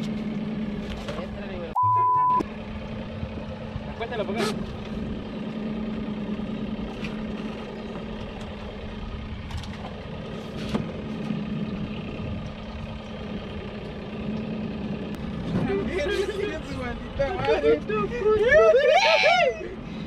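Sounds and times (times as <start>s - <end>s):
boat motor idling: 0.0s - 20.0s.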